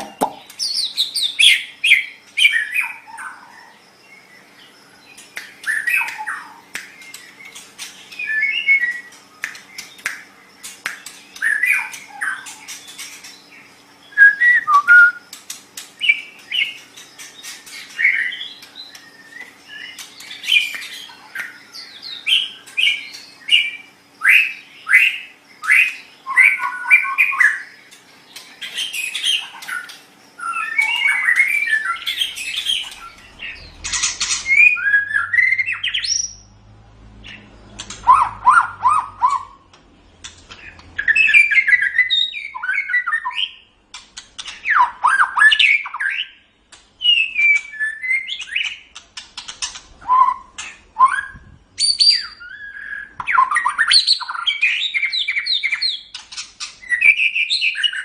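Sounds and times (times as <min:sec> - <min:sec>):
bird singing varied song: 0:00.0 - 0:58.0.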